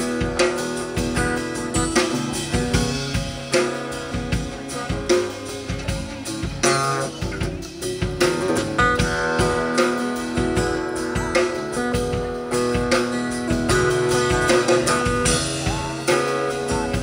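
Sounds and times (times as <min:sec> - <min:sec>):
acoustic guitar chords: 0:00.0 - 0:17.0
drum kit beat: 0:00.0 - 0:17.0.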